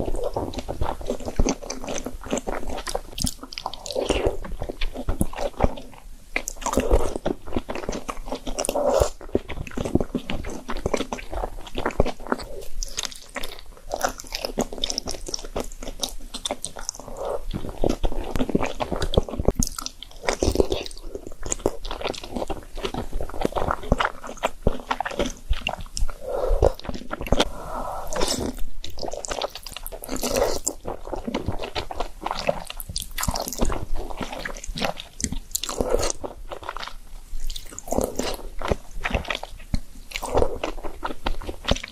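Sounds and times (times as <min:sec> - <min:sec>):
mouth clicks and smacks: 0:00.0 - 0:41.9
slurping and chewing noodles: 0:00.0 - 0:41.9.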